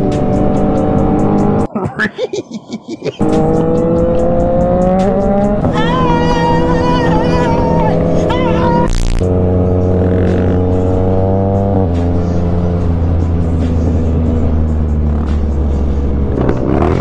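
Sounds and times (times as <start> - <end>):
music: 0.0 - 17.0
motorcycle engine accelerating: 3.2 - 17.0.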